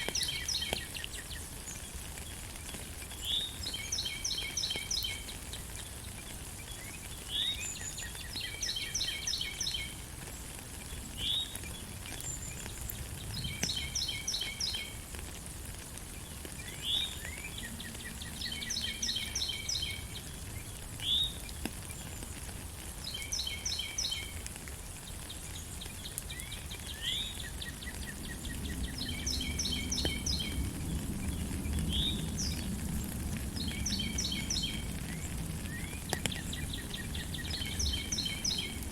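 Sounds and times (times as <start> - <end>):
songbird singing: 0.0 - 15.2, 16.1 - 38.9
steady rain: 0.0 - 38.9.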